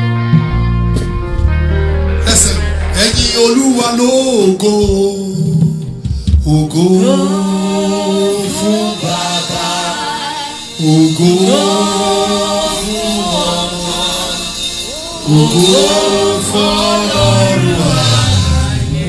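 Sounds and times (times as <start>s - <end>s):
gospel singers holding long notes: 0.5s - 19.0s.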